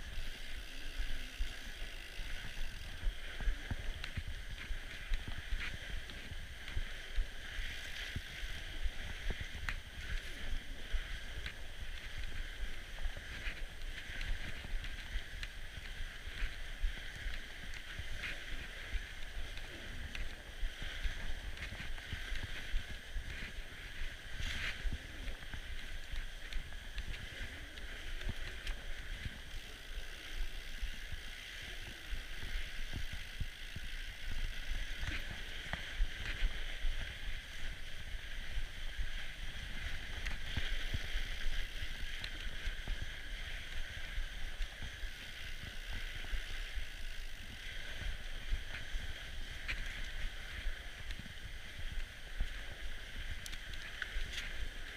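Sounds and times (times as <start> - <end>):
bike tyres on packed snow: 0.0 - 54.9
constant low rumble: 0.0 - 54.9
small crackles and clicks: 0.0 - 54.9.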